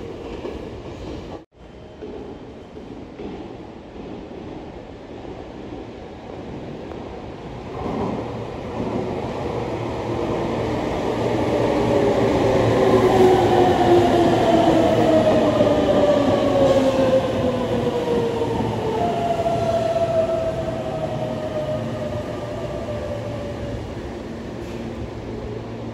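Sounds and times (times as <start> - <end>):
train wheels rolling on rails: 0.0 - 25.9.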